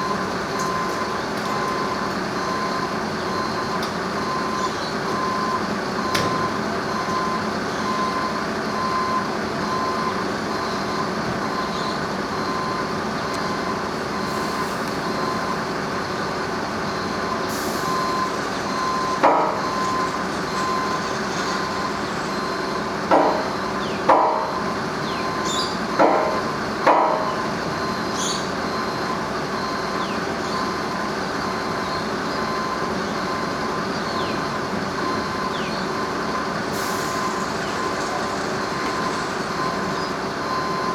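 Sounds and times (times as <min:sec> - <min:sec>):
heavy vehicle engine running: 0:00.0 - 0:40.9
reversing alarm beeping: 0:00.0 - 0:40.9.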